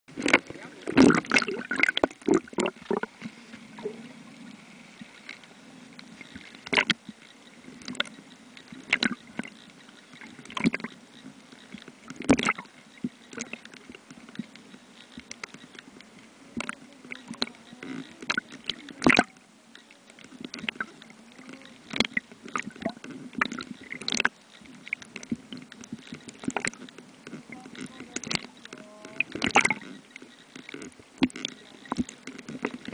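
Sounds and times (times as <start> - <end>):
low underwater hum: 0.1 - 32.9.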